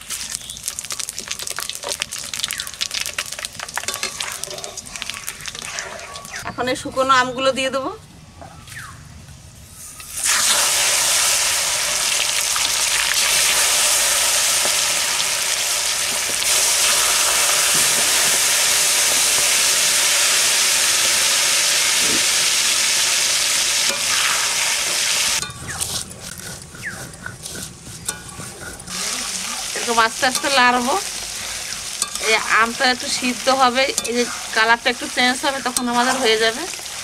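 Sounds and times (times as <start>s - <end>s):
food sizzling in hot oil: 0.0s - 6.5s, 9.6s - 37.0s.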